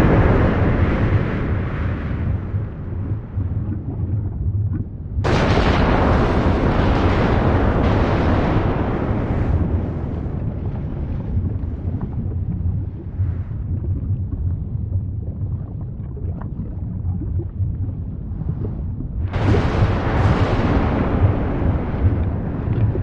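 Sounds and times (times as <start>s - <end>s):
volcano rumbling: 0.0s - 23.0s.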